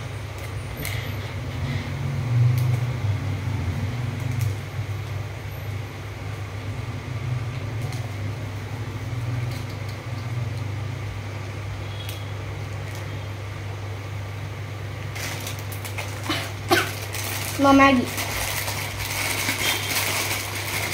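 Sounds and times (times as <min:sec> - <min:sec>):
fan or motor humming: 0:00.0 - 0:20.9.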